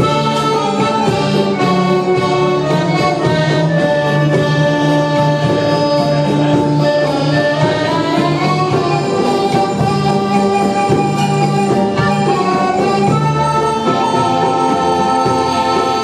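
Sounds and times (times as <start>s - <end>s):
live ensemble playing arabic tune: 0.0s - 16.0s.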